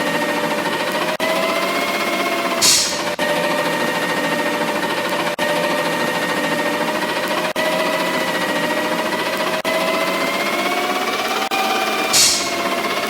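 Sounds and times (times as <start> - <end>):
garbage truck drone: 0.0 - 13.0.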